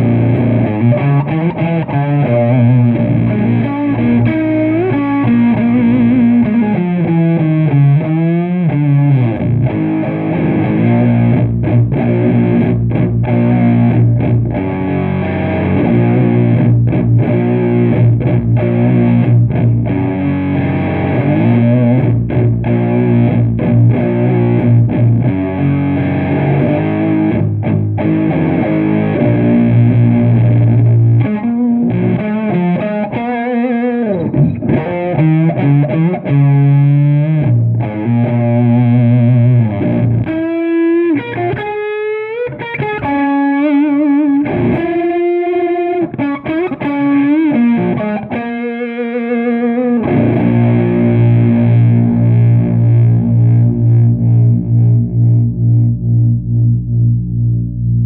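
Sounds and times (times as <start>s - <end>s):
heavy distorted electric guitar riffs: 0.0s - 58.0s
sliding guitar notes: 0.0s - 58.0s.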